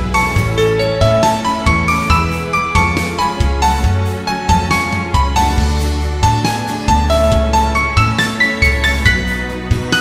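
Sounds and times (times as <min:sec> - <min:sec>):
light piano tune: 0:00.0 - 0:10.0.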